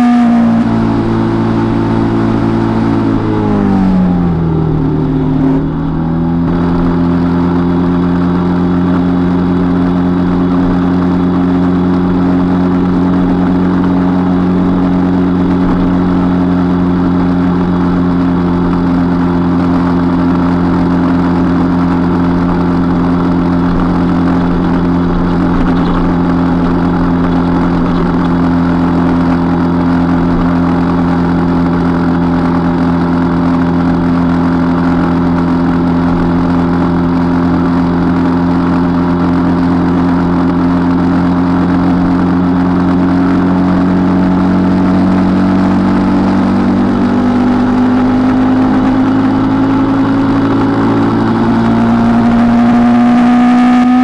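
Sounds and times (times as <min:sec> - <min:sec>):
motorcycle engine droning: 0:00.0 - 0:54.0
wind and road noise: 0:00.0 - 0:54.0.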